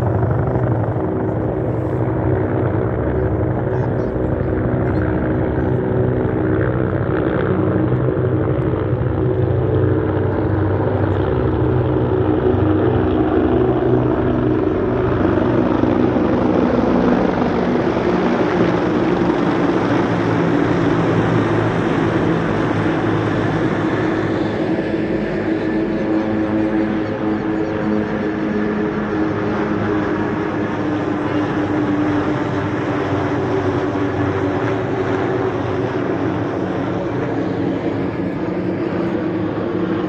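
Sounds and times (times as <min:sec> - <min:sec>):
helicopters flying overhead: 0:00.0 - 0:40.0.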